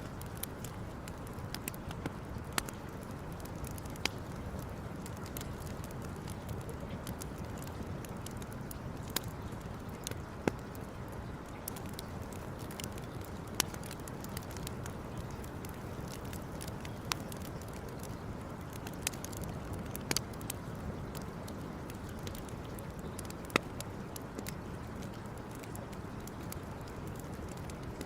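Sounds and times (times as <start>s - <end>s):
burning wood crackles: 0.0s - 28.0s
campfire rushing noise: 0.0s - 28.0s.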